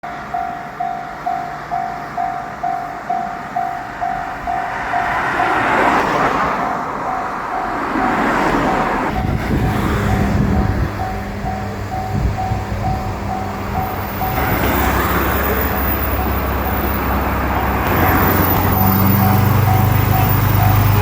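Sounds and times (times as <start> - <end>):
railroad crossing bell ringing: 0.0 - 21.0.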